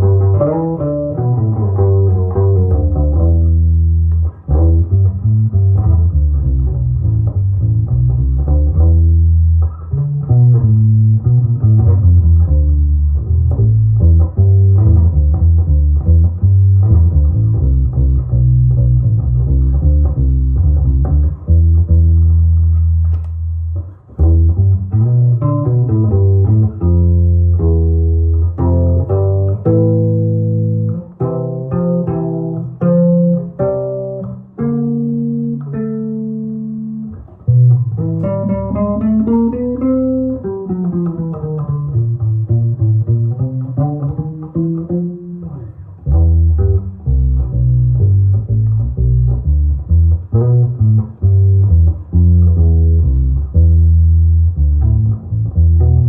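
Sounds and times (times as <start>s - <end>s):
electric bass plucked notes: 0.0s - 56.0s.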